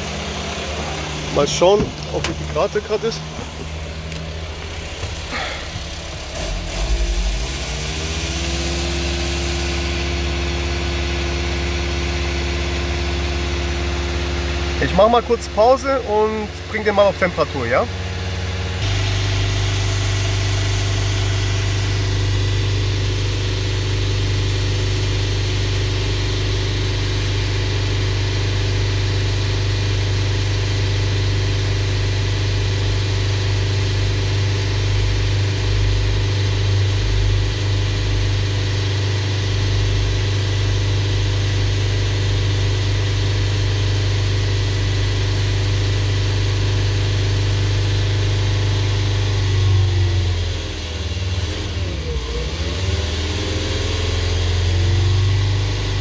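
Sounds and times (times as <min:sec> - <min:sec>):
van engine idling: 0:00.0 - 0:52.5.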